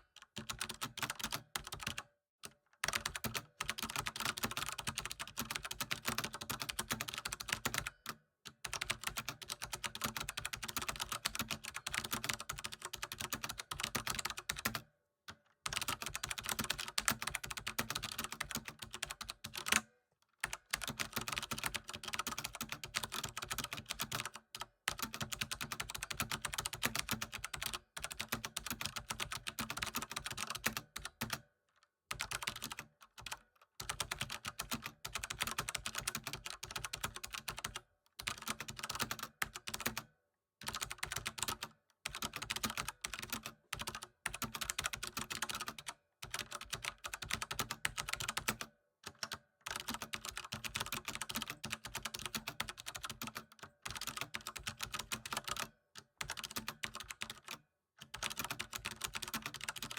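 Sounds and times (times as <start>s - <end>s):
keyboard typing: 0.4s - 2.0s, 2.8s - 8.0s, 8.6s - 14.8s, 15.7s - 19.8s, 20.4s - 31.4s, 32.1s - 40.0s, 40.6s - 59.9s.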